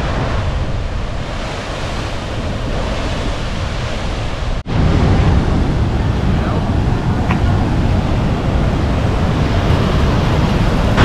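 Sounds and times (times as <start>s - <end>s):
heavy surf crashing against rocks: 0.0s - 11.0s
wind buffeting microphone: 0.0s - 11.0s.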